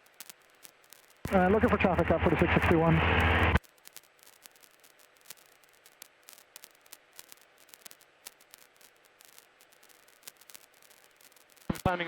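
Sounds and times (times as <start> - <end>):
faint hiss: 0.0 - 12.0
soft crackles and clicks: 0.0 - 12.0.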